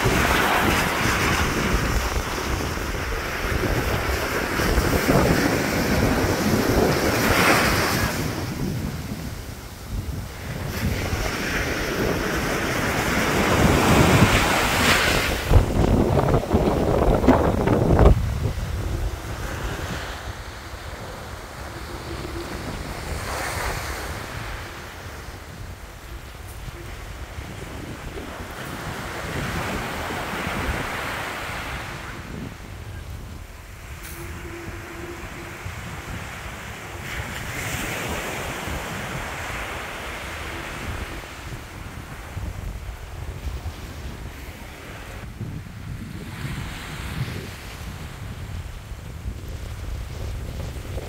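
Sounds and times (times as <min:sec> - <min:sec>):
sea surf washing in: 0:00.0 - 0:51.0
small waves breaking on shore: 0:00.0 - 0:51.0
wind rumbling on microphone: 0:00.0 - 0:51.0.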